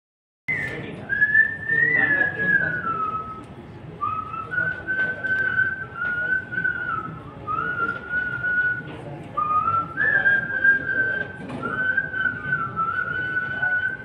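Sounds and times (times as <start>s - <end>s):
man whistling a melody: 0.5s - 14.0s.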